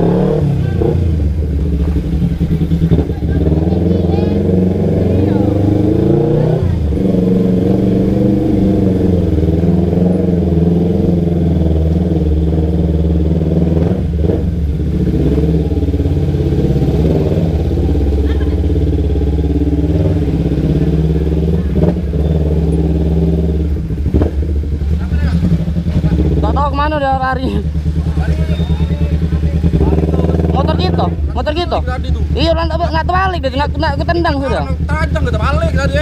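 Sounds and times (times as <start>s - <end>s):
motorcycle engine at low revs: 0.0s - 36.0s.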